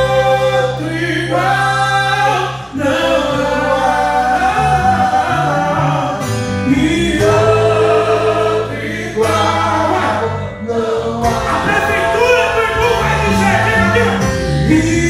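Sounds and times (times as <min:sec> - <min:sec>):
man singing into a microphone: 0:00.0 - 0:08.1, 0:09.2 - 0:15.0
band with moving bass line: 0:00.0 - 0:15.0
strummed acoustic guitar: 0:00.0 - 0:15.0.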